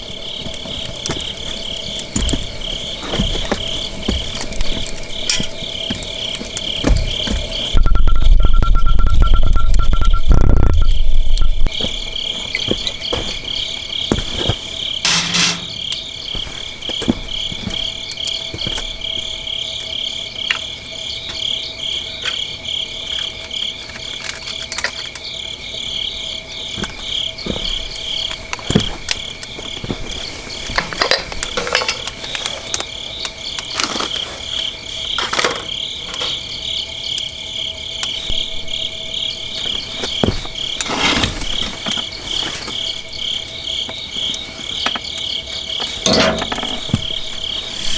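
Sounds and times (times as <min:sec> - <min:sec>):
crickets chirping: 0:00.0 - 0:47.9
wood fire crackling: 0:00.0 - 0:47.9.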